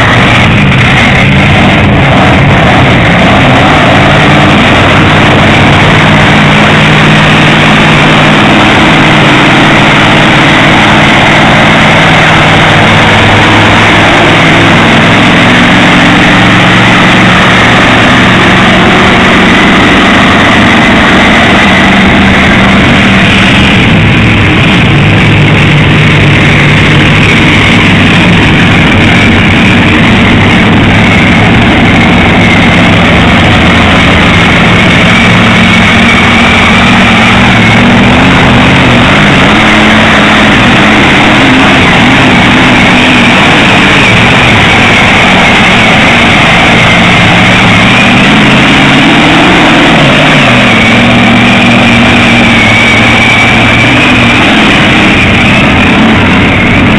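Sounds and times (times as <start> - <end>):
loud truck engines revving: 0.0 - 56.9.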